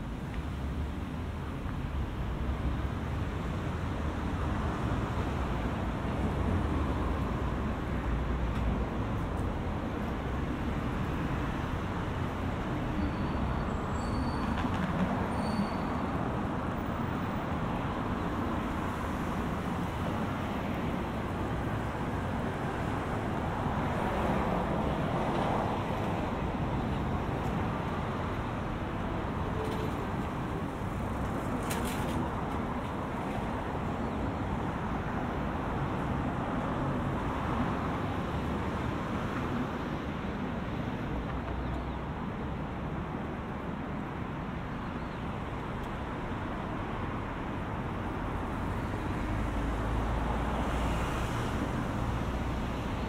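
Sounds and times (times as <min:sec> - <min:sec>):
city road traffic: 0:00.0 - 0:53.0.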